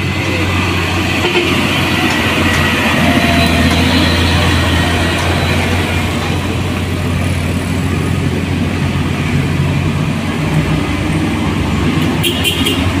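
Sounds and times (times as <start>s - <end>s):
car engines: 0.0s - 13.0s
truck diesel engine droning: 0.0s - 13.0s.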